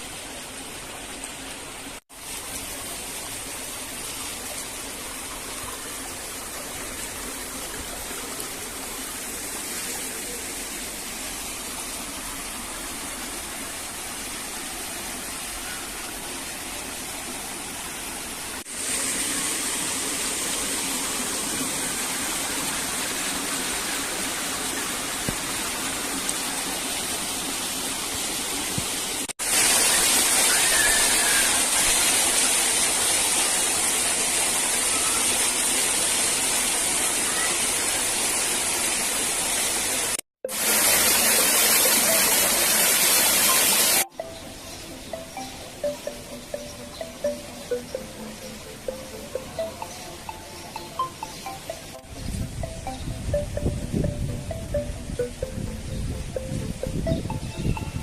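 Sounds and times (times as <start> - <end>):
rushing running water: 0.0 - 58.0.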